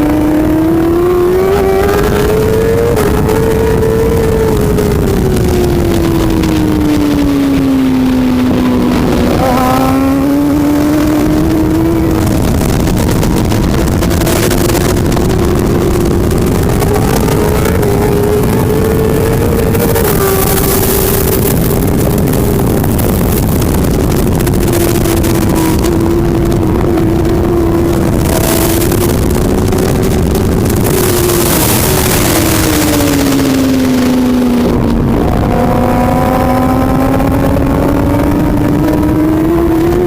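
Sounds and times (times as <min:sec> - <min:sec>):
racing motorcycle engine revving: 0:00.0 - 0:40.0
wind noise: 0:00.0 - 0:40.0.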